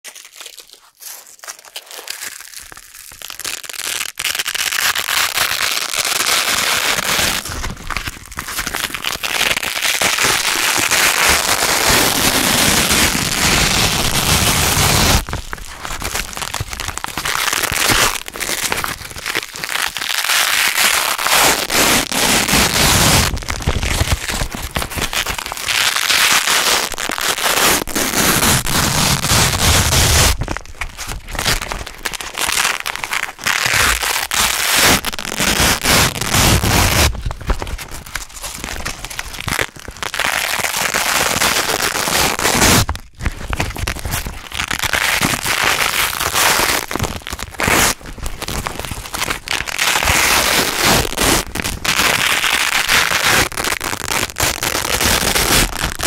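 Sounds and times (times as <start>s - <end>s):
velcro ripping: 0.0s - 56.0s.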